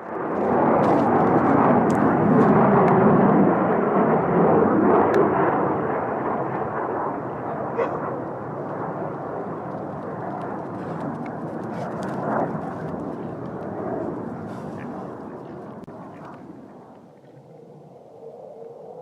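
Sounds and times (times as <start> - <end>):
airplane roaring overhead: 0.0 - 19.0.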